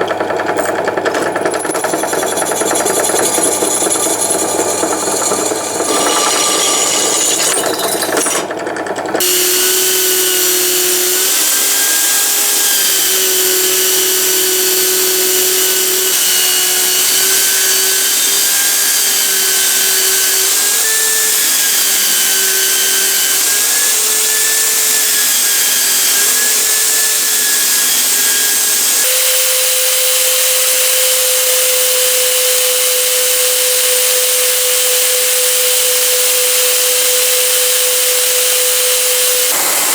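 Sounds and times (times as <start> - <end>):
high-speed power tool whining: 0.0 - 39.9.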